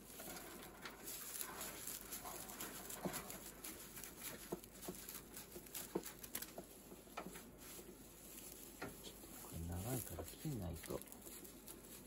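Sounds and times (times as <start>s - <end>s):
dry hay rustling and crackling: 0.0s - 12.0s.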